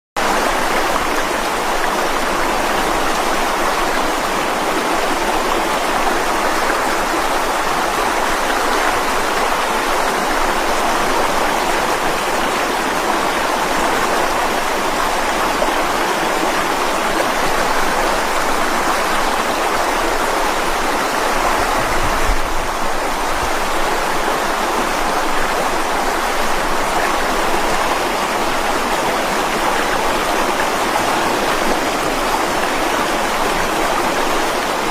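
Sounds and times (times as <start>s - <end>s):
stream rushing over rocks: 0.2s - 34.9s.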